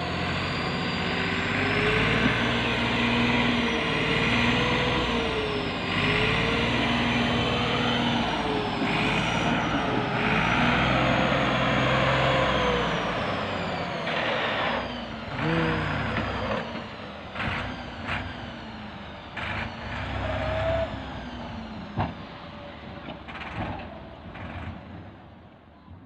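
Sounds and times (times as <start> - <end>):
tractor diesel engine running: 0.0 - 25.5.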